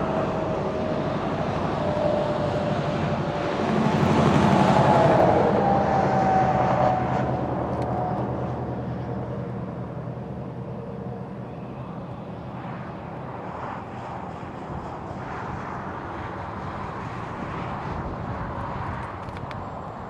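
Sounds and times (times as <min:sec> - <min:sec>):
car road noise: 0:00.0 - 0:20.0
wind noise: 0:00.0 - 0:20.0.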